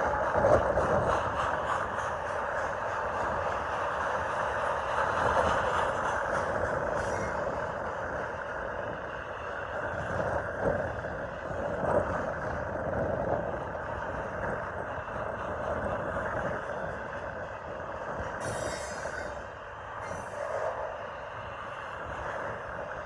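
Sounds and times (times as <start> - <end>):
train cars rolling on rails: 0.0 - 23.0
wind buffeting microphone: 0.0 - 23.0.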